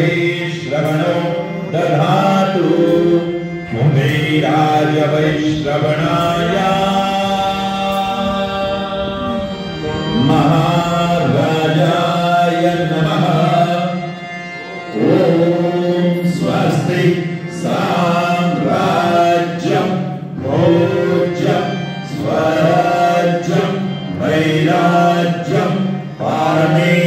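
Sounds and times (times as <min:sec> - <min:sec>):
congregation singing a chant: 0:00.0 - 0:27.0
person singing into a microphone: 0:00.0 - 0:27.0.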